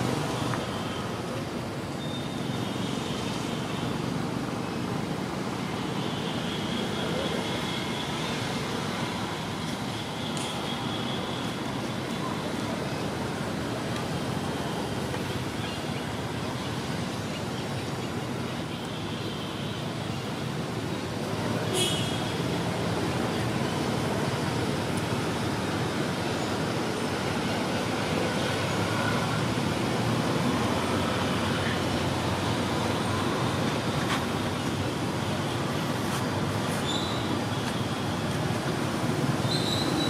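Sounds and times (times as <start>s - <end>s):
outdoor hiss and rumble: 0.0s - 40.0s.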